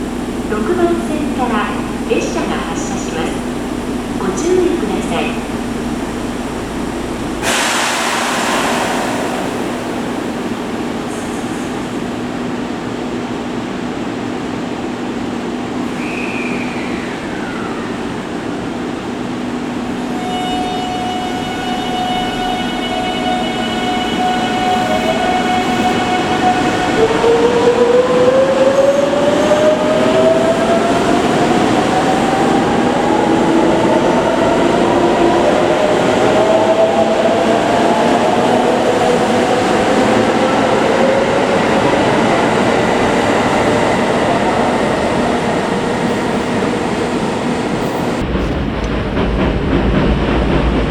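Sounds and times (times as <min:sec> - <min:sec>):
train wheels rumbling: 0:00.0 - 0:50.9.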